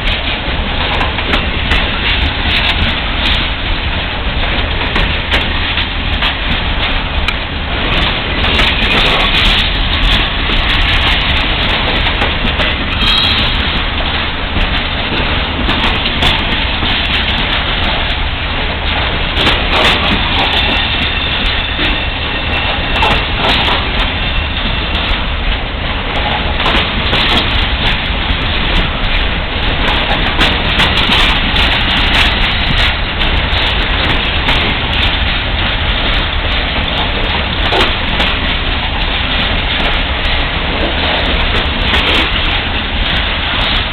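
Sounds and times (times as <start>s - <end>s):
freight train wheels rumbling on rail: 0.0s - 43.9s
sharp rail clicks: 0.0s - 43.9s.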